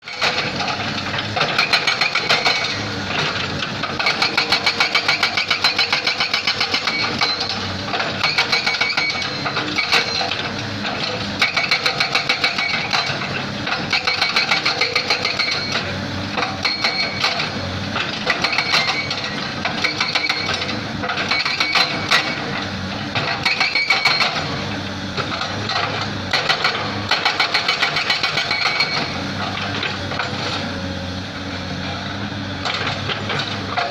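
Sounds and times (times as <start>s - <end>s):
hydraulic breaker hammering rock: 0.0s - 30.8s, 32.6s - 33.9s
excavator engine running: 0.1s - 33.9s.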